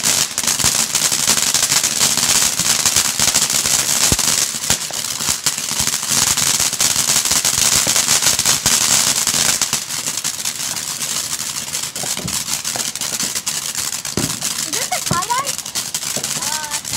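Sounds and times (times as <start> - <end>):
firework crackling pops: 0.0 - 16.9
firework hissing: 0.0 - 16.9.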